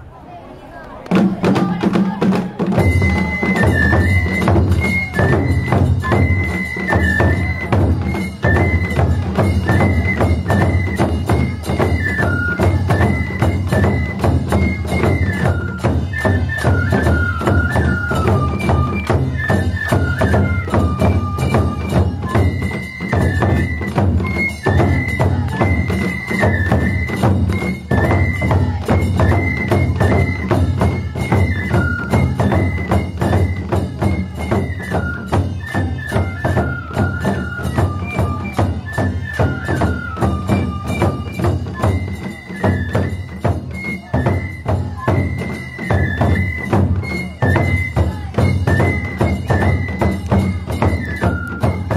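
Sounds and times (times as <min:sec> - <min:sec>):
bamboo flutes melody: 0:00.7 - 0:51.9
small drums beating: 0:00.9 - 0:51.9.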